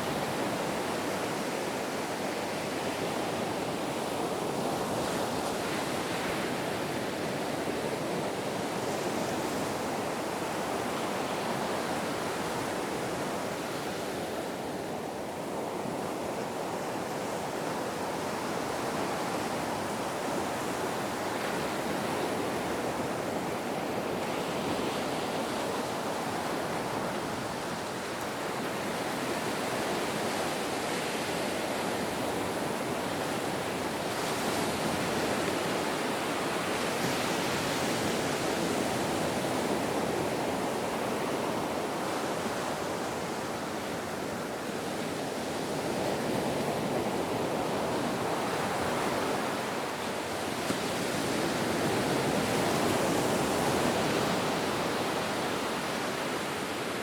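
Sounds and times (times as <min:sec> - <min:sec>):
ocean waves: 0:00.0 - 0:57.0.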